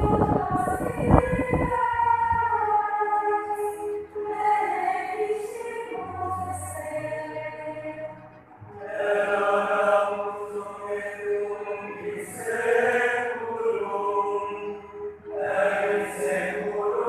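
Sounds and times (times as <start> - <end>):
group singing a liturgical chant: 0.0 - 8.1, 8.7 - 17.0.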